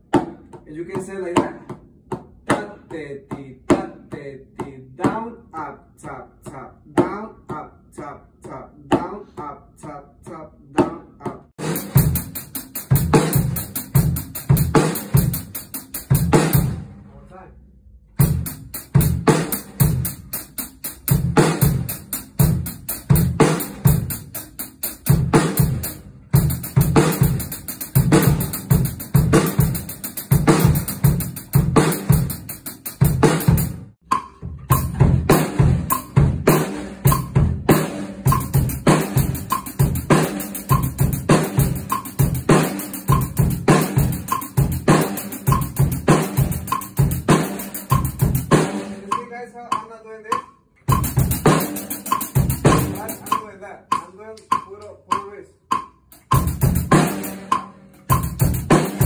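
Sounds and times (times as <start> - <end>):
drum kit played with sticks: 0.0 - 17.4, 18.0 - 59.0.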